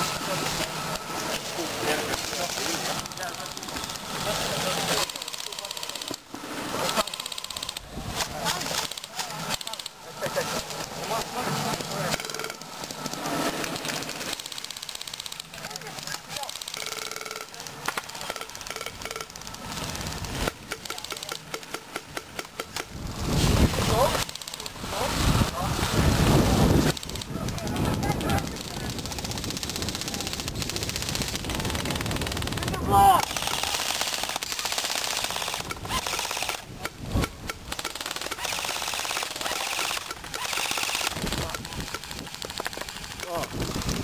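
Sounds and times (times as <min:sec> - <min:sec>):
airsoft guns firing: 0:00.0 - 0:44.0.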